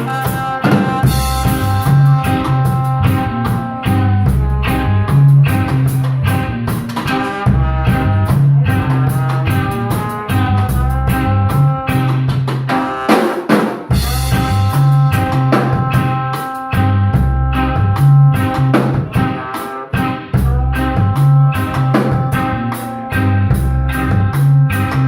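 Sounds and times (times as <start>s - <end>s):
bass guitar notes: 0.0s - 25.0s
drum kit beat: 0.0s - 25.0s
sustained guitar notes: 0.0s - 25.0s.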